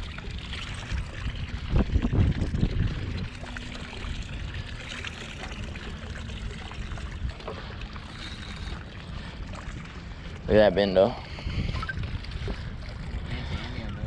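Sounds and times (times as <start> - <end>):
low rumbling: 0.0 - 14.0
water sloshing against boat hull: 0.0 - 14.0.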